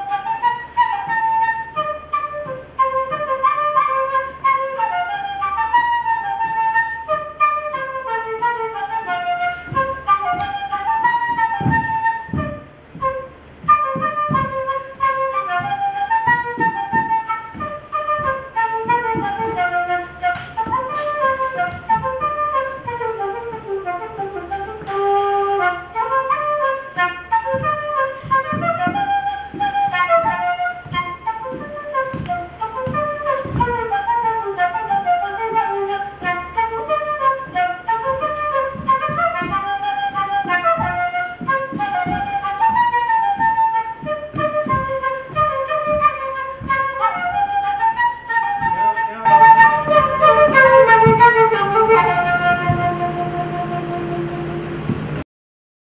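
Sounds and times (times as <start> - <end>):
whistle playing dance tune: 0.0 - 55.2.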